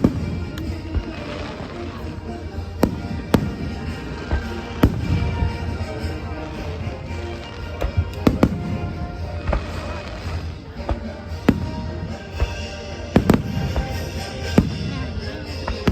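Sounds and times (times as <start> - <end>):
fireworks bangs: 0.0 - 15.9
music playing: 0.0 - 15.9.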